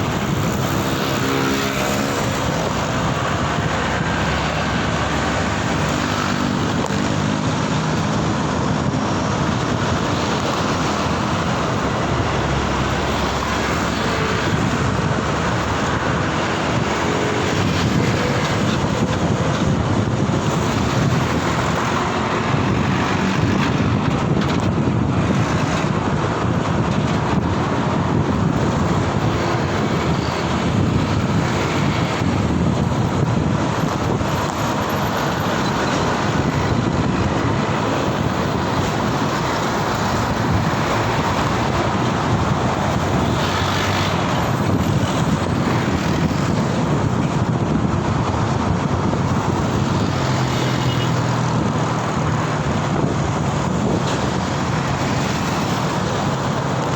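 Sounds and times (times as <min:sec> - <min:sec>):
road traffic noise: 0:00.0 - 0:56.9.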